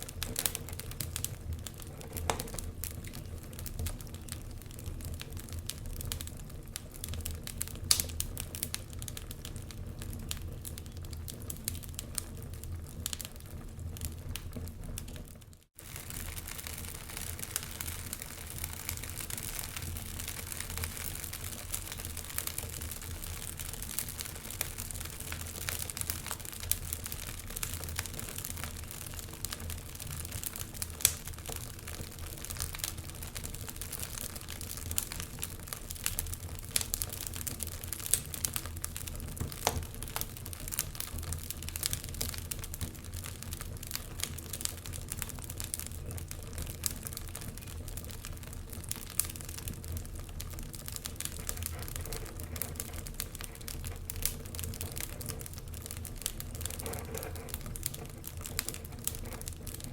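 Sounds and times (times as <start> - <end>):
fire popping: 0.0 - 59.9
wood fire crackling: 0.0 - 59.9.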